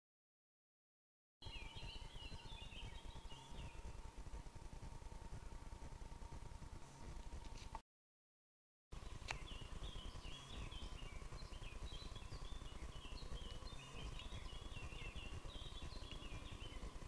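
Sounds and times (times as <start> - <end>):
songbirds chirping: 1.4 - 7.7, 8.9 - 17.0
steady low rumble: 1.4 - 7.8, 9.0 - 17.0.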